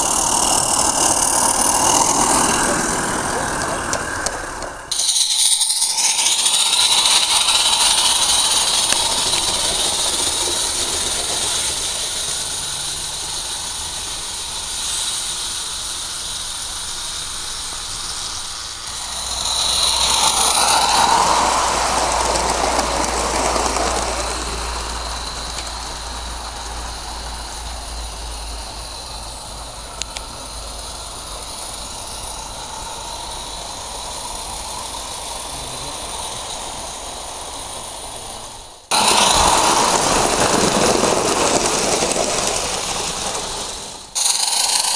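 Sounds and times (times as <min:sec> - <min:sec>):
model steam locomotive running: 0:00.0 - 0:44.9.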